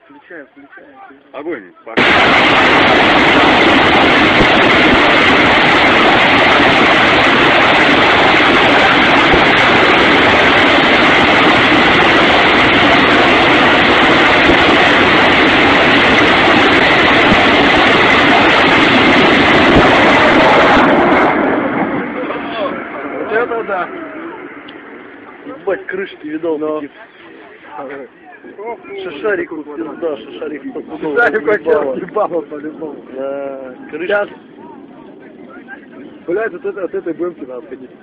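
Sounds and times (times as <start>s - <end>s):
rockets launching roar: 2.0s - 27.9s, 28.8s - 38.0s.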